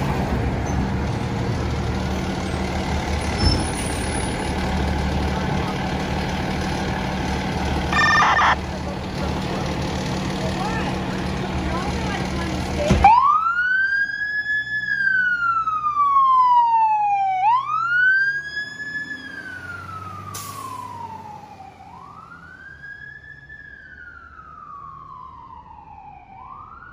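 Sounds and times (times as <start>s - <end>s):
fire truck siren wailing: 4.2s - 26.9s.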